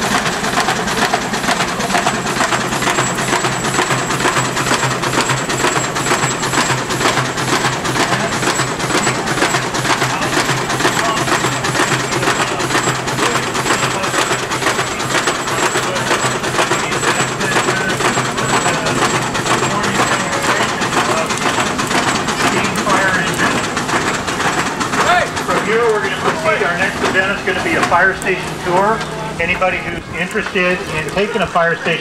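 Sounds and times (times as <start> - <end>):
steam engine chuffing: 0.0 - 32.0.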